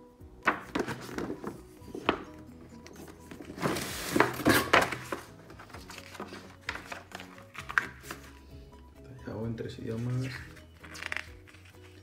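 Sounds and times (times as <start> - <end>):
background music: 0.0 - 12.0
paper rustling: 0.4 - 8.4, 9.8 - 12.0.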